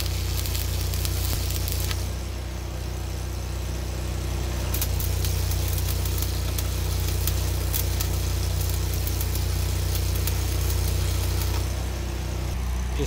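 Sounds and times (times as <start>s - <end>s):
sharp welding crackles: 0.0s - 13.0s
welder engine running: 0.0s - 13.0s.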